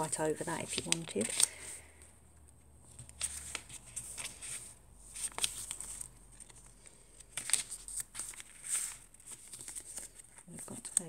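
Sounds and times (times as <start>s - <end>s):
paper rustling: 0.0s - 1.9s, 2.8s - 11.0s.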